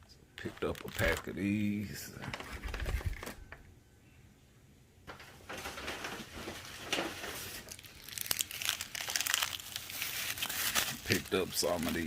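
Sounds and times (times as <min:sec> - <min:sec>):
packaging rustling and crinkling: 0:00.4 - 0:03.6, 0:05.2 - 0:12.0.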